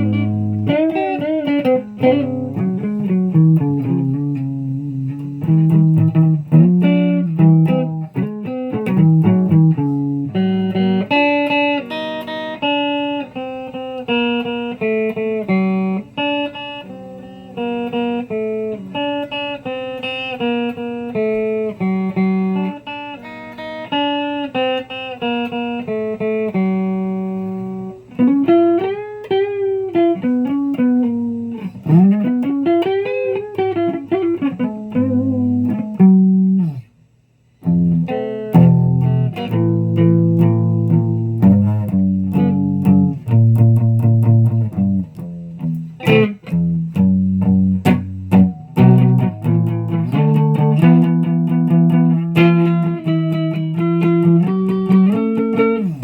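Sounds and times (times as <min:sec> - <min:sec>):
guitar picked melody: 0:00.0 - 0:56.0.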